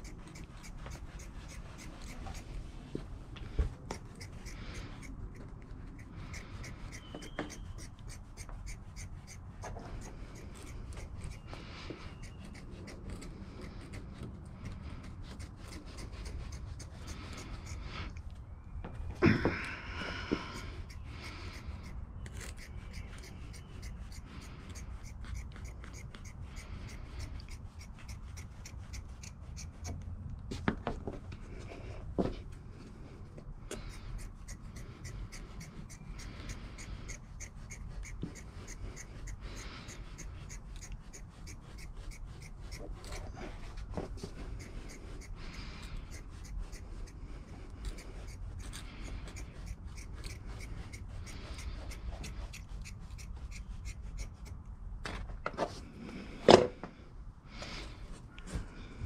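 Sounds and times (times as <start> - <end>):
scissors snipping carpet: 0.0 - 2.6, 3.4 - 18.2, 20.3 - 30.1, 33.6 - 54.6.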